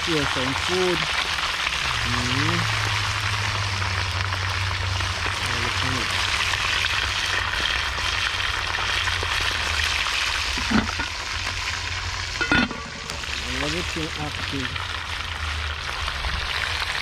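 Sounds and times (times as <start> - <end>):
fish deep-frying sizzle: 0.0 - 17.0.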